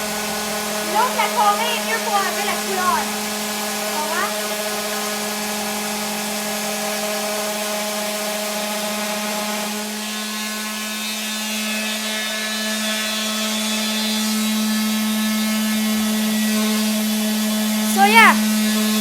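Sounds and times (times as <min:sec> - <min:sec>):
electric sander on wood: 0:00.0 - 0:19.0.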